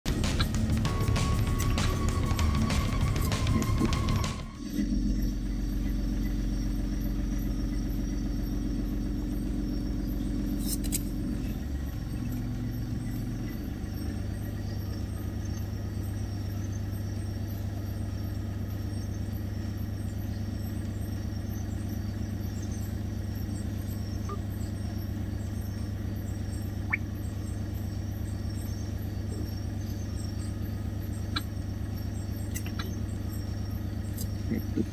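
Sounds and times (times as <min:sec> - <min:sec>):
vehicle engine idling: 0:00.0 - 0:34.9.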